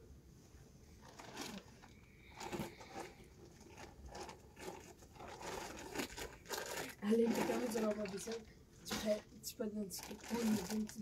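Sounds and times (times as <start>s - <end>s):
small clicks and crunches: 1.0s - 9.3s, 9.9s - 11.0s.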